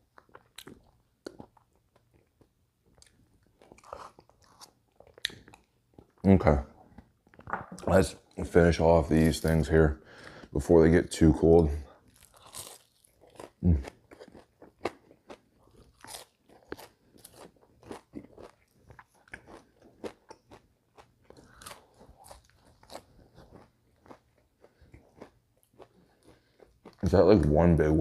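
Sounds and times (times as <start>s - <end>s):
crunching and chewing food: 0.0s - 27.5s.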